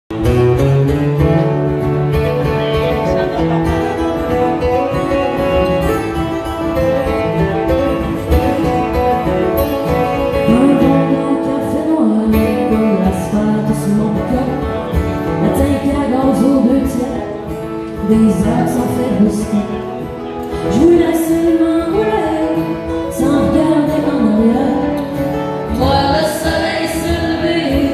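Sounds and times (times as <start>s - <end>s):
acoustic guitars strumming folk tune: 0.1s - 27.9s.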